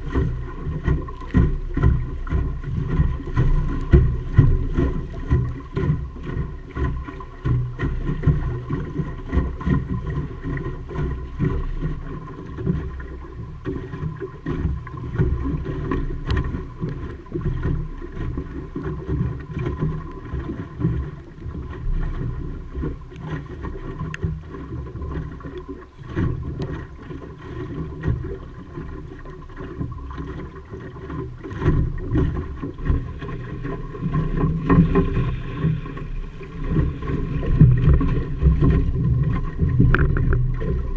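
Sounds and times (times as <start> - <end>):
water slapping against hull: 0.0 - 40.9
wind rumbling on microphone: 0.0 - 40.9.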